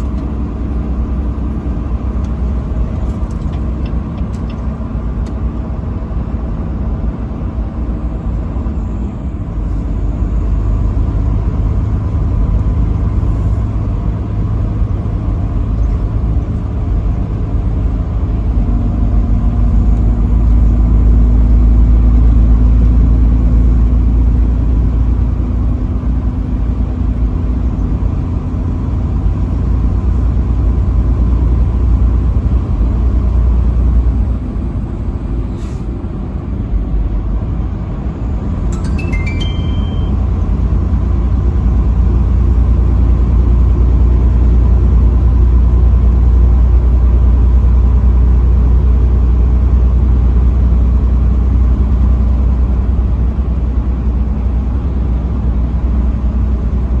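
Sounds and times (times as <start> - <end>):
road and engine rumble inside vehicle: 0.0 - 57.0.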